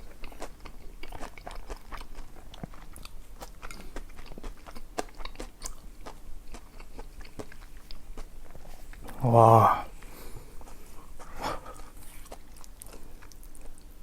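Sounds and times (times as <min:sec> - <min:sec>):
mouth chewing and smacking: 0:00.0 - 0:09.2, 0:10.0 - 0:14.0.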